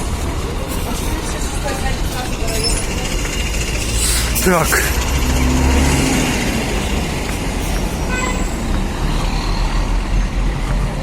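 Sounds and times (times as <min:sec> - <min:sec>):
city street traffic: 0:00.0 - 0:11.0
large vehicle engine running: 0:00.0 - 0:11.0.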